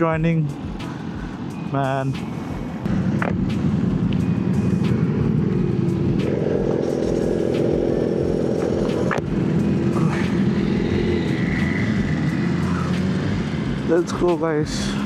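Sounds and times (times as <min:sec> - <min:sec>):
road noise: 0:00.0 - 0:15.0
motorcycle engine: 0:02.2 - 0:15.0.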